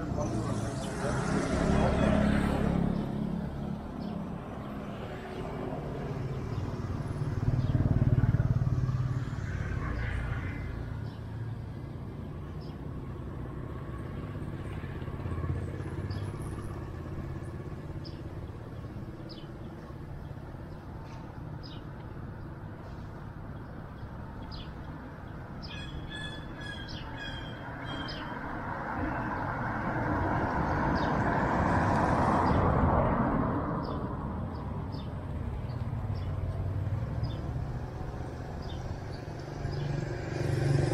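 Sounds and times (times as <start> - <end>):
vehicle engine rumbling past: 0.0 - 40.9.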